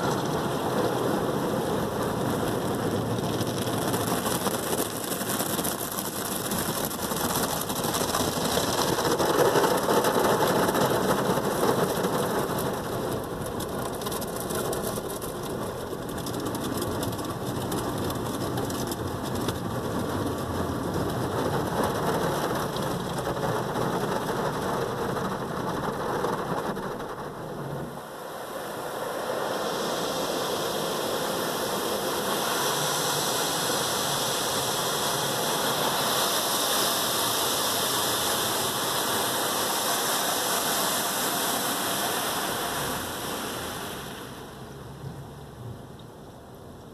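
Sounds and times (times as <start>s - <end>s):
car wash water spraying: 0.0s - 45.6s.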